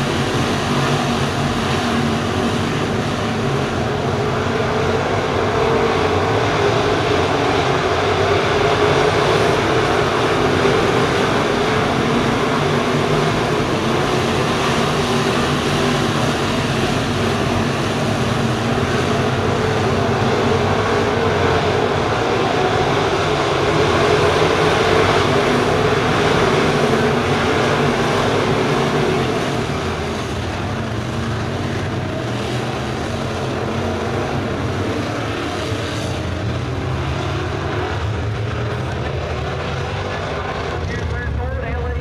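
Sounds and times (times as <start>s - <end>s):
race car engines roaring: 0.0s - 42.0s.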